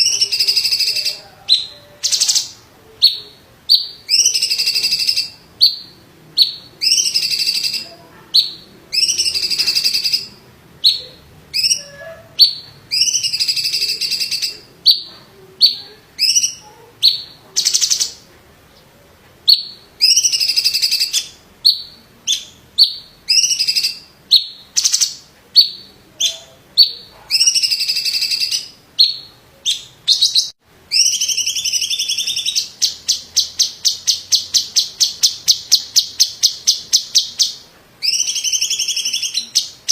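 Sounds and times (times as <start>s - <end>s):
bird singing whistled phrases: 0.0s - 7.8s, 8.4s - 18.2s, 19.5s - 39.9s.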